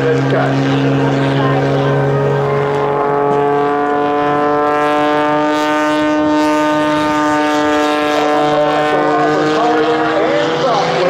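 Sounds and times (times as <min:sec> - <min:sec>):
biplane engine droning overhead: 0:00.0 - 0:11.0.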